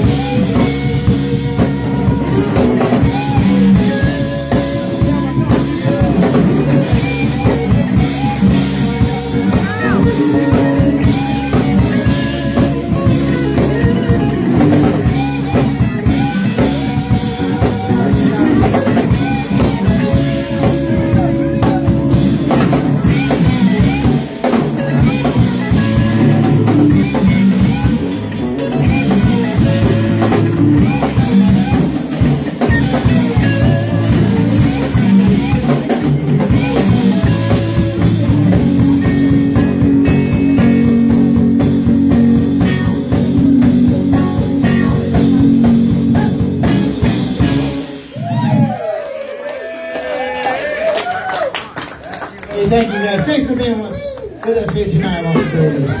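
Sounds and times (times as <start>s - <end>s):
person singing: 0.0s - 47.6s
live rock band playing: 0.0s - 56.0s.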